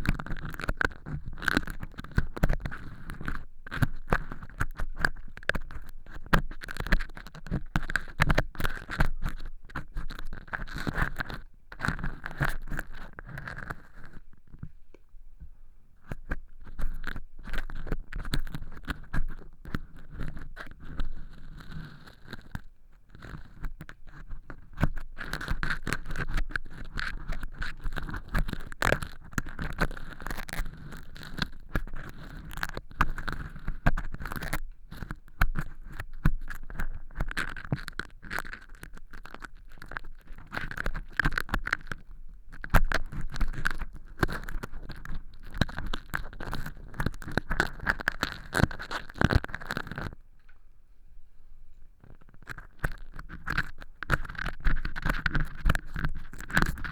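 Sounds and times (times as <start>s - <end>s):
earpick scratching dry fake earwax: 0.0s - 14.7s, 16.0s - 50.2s, 52.0s - 56.9s.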